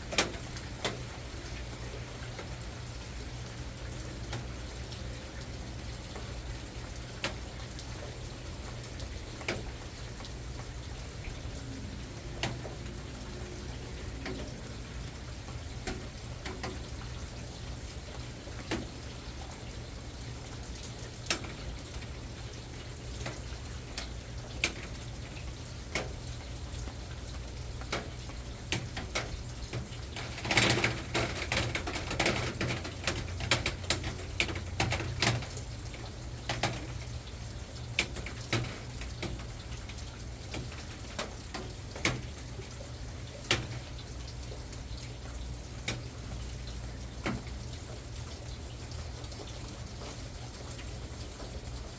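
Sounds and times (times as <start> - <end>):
raindrops tapping: 0.0 - 51.9.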